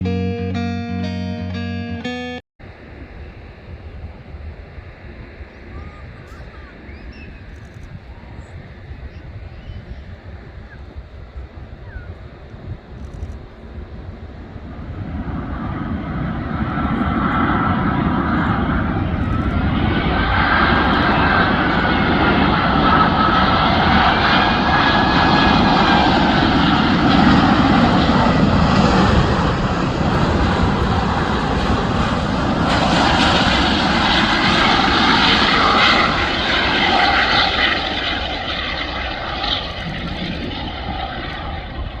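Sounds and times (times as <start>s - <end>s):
jet engine whine and rumble: 2.6s - 42.0s.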